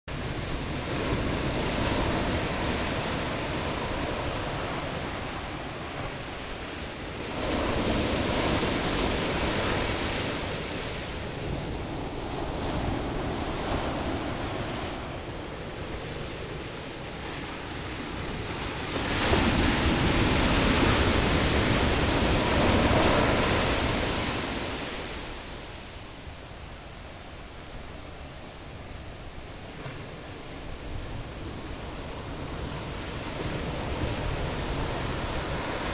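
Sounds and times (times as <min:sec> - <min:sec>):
ocean surf breaking on beach: 0:00.1 - 0:35.9.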